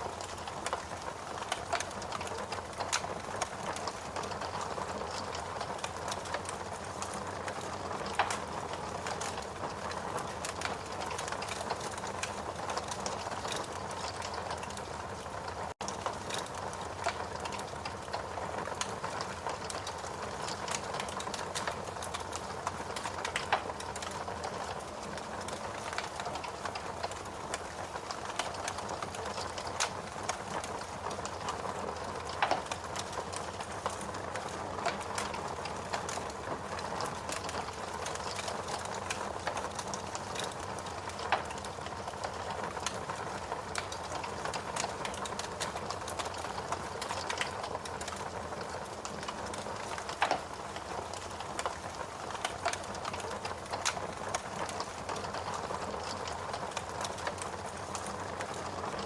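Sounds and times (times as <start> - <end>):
steady rain: 0.0 - 59.0
wood fire crackling and popping: 0.0 - 59.0.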